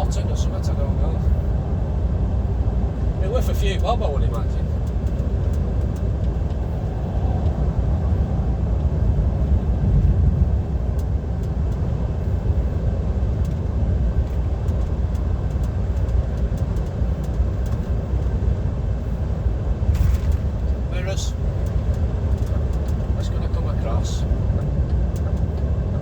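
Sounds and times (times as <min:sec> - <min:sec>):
truck cab drone and road rumble: 0:00.0 - 0:26.0.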